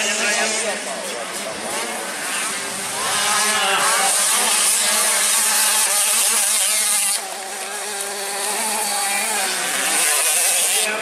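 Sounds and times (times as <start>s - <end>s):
motocross bike engine buzzing: 0.0s - 11.0s.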